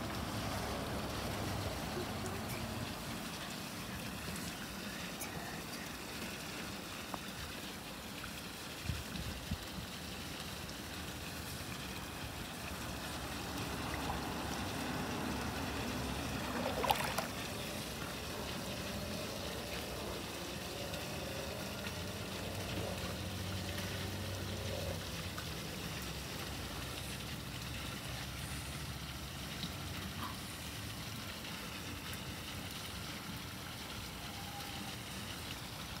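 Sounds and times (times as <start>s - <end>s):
pool water trickling and lapping: 0.0s - 36.0s.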